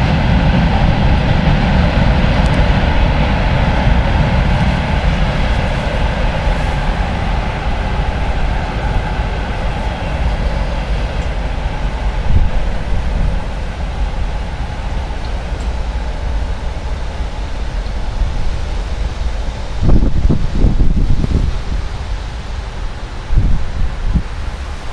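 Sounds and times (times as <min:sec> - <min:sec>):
train knock: 0:00.0 - 0:21.4
freight train wheels rumbling: 0:00.0 - 0:24.9.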